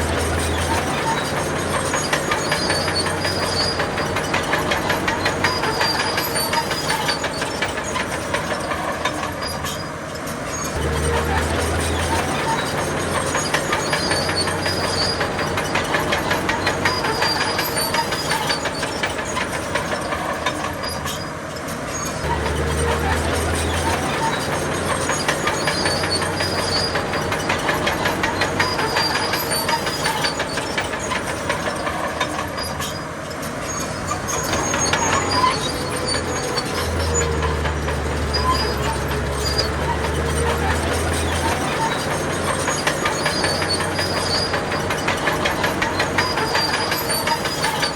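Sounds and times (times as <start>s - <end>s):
diesel engine under load: 0.0s - 47.9s
steel tracks clattering: 0.0s - 47.9s.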